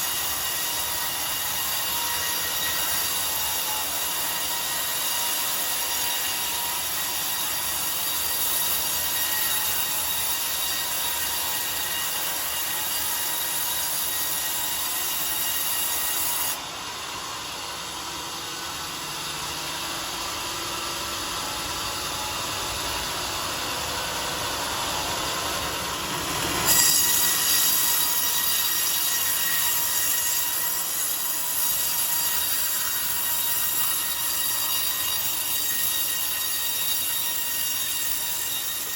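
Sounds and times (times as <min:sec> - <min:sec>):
circular saw whining through wood: 0:00.0 - 0:38.9.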